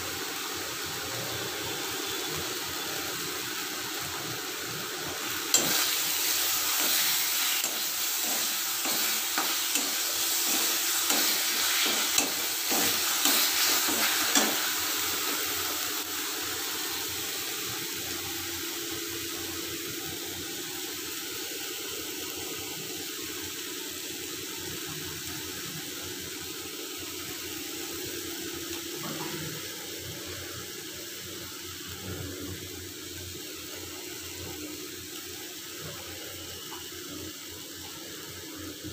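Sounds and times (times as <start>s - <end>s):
paste sizzling in a pan: 0.0s - 38.9s.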